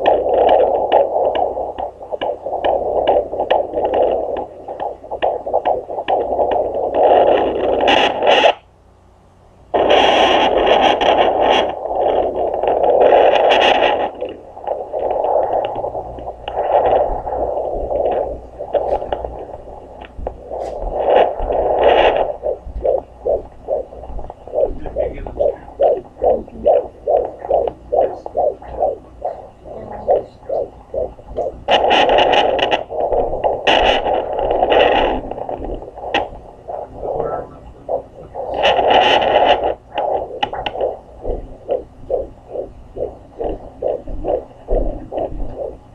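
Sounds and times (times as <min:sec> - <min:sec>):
fast heartbeat pulsing: 0:00.0 - 0:08.6, 0:09.7 - 0:45.9
probe scraping rushes: 0:00.0 - 0:08.6, 0:09.7 - 0:45.9
doppler whooshing static: 0:00.0 - 0:08.7, 0:09.6 - 0:45.9.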